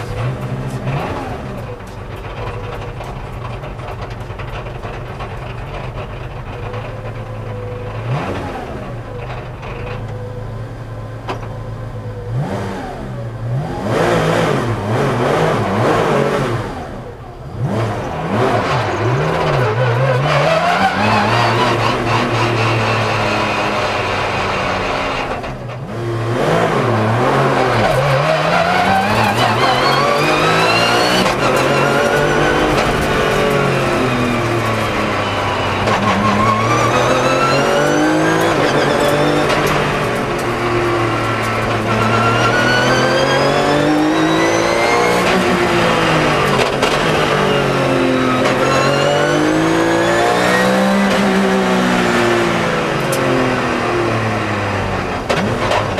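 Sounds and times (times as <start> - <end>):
race car engine revving: 0.0 - 11.4, 12.1 - 55.9.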